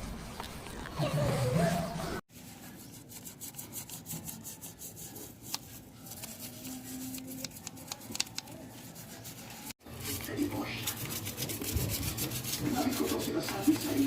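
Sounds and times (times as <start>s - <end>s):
scrubbing on motorcycle engine: 1.5s - 14.0s.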